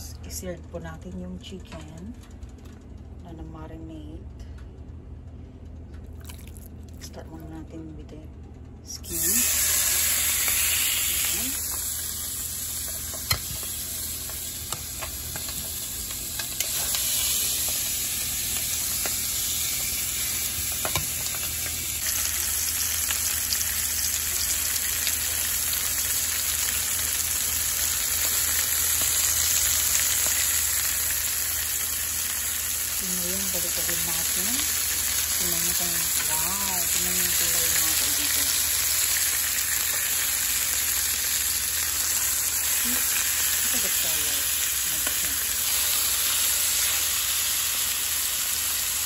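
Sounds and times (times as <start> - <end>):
chicken sizzling in oil: 9.1 - 49.0.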